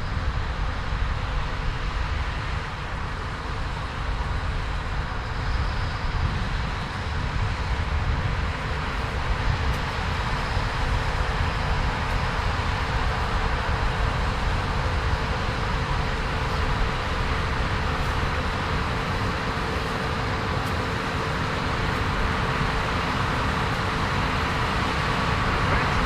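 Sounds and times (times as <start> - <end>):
heavy farm machinery engine drone: 0.0 - 26.0.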